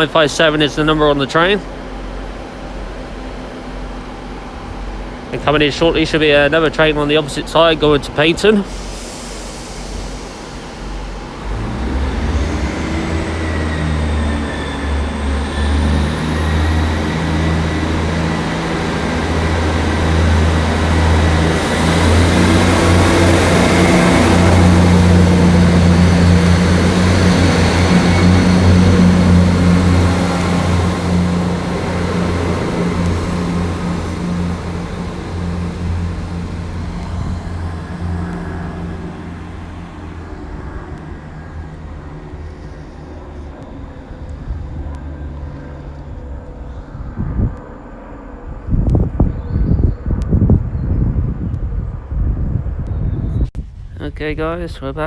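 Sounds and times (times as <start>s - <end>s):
train diesel engines working: 0.0s - 48.7s
high whine stepping up in pitch: 0.0s - 53.6s.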